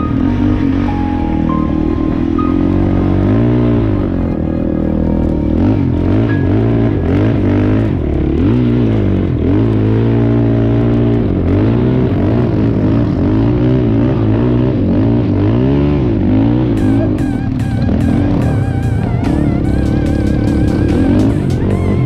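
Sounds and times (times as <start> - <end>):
engine revving: 0.0 - 22.0.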